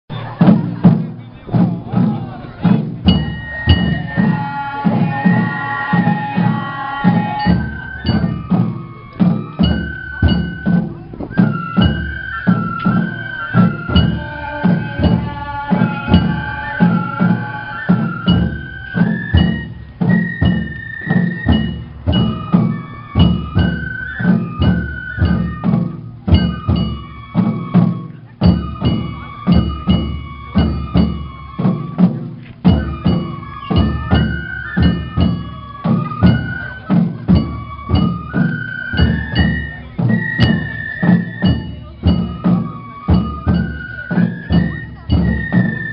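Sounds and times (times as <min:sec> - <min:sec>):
bamboo flute melody: 0:00.1 - 0:45.9
taiko drum beats: 0:00.1 - 0:45.9.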